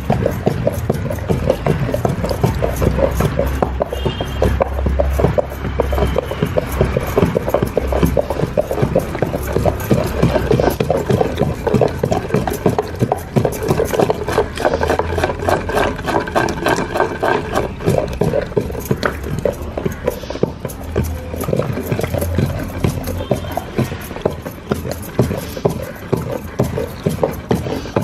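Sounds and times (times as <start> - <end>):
rhythmic knocking and slapping of dough: 0.0 - 28.0.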